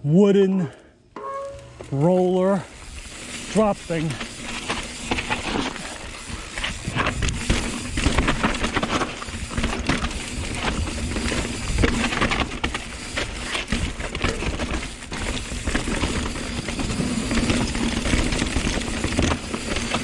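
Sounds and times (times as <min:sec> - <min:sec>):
mountain bike clattering on trail: 0:01.6 - 0:20.0.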